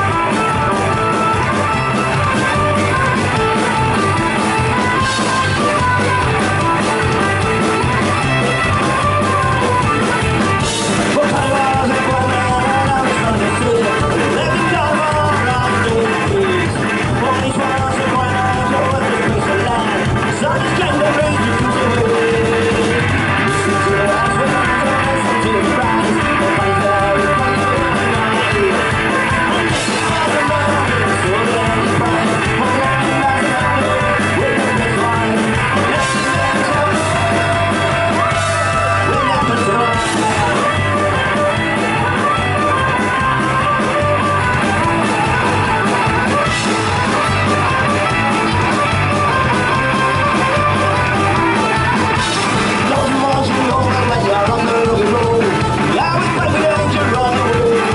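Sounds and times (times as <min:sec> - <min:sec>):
fiddle melody: 0:00.0 - 0:57.9
folk-punk band playing live: 0:00.0 - 0:57.9.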